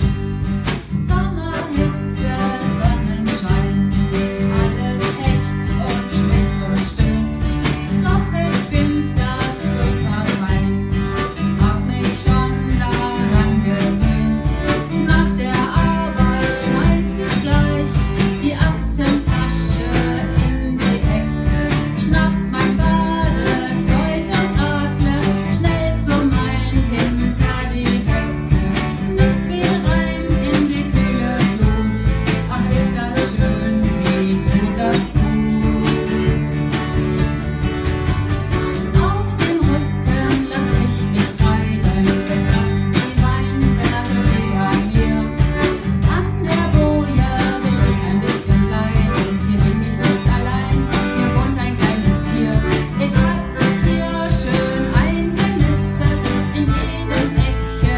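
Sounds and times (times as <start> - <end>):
band music with guitars: 0.0 - 57.9.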